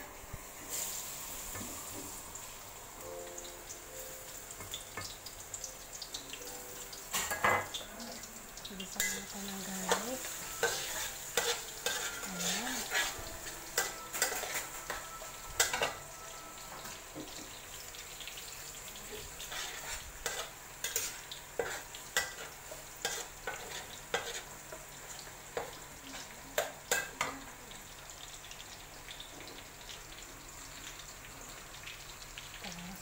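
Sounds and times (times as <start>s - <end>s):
garlic sizzling in hot oil: 0.0s - 33.0s.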